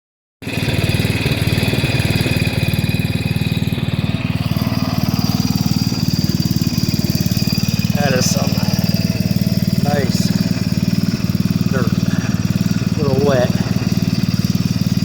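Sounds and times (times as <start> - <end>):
garden tractor engine running: 0.4 - 15.0.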